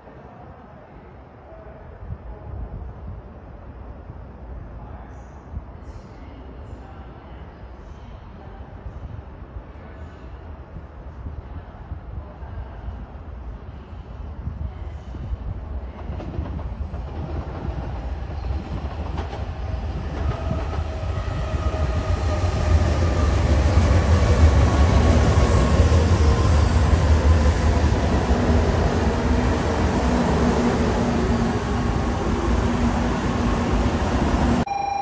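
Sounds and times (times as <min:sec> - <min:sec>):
bullet train rumble: 0:00.0 - 0:34.7.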